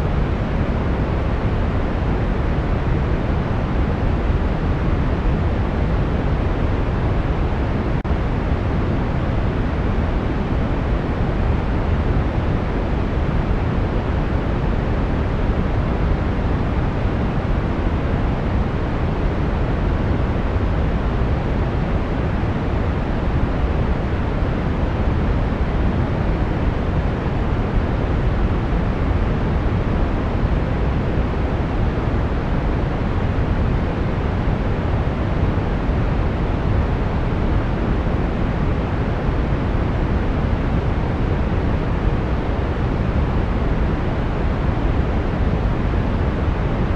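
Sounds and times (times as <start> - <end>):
brown noise: 0.0 - 46.9.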